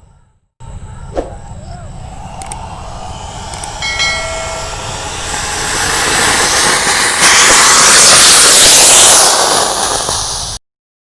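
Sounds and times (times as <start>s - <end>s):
rocket motor hissing: 1.2s - 10.6s.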